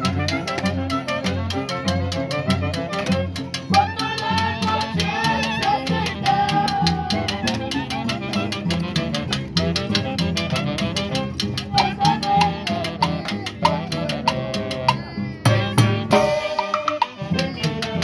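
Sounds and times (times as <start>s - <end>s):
saxophones and clarinet: 0.0s - 18.0s
violin: 0.0s - 18.0s
drum kit fast rhythm: 3.1s - 18.0s.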